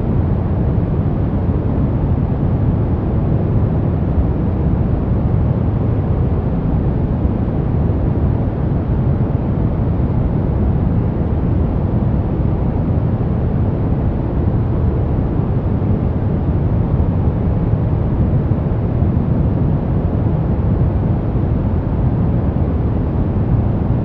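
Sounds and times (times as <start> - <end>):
deep white noise rush: 0.0 - 24.0.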